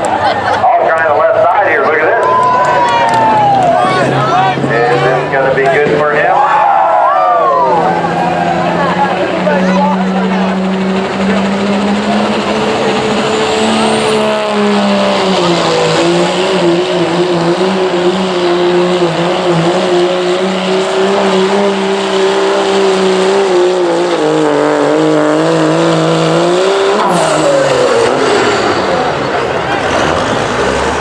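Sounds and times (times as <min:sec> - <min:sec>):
diesel truck engine at full throttle: 0:00.0 - 0:31.0.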